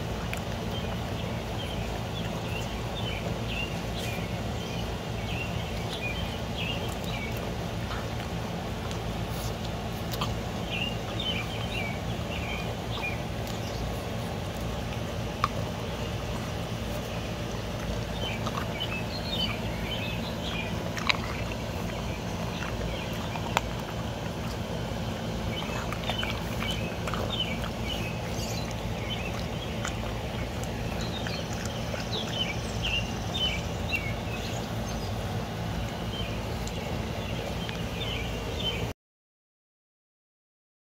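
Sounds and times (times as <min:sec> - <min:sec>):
birds chirping: 0:00.0 - 0:38.9
dog chewing ice: 0:00.0 - 0:38.9
low background hum: 0:00.0 - 0:38.9.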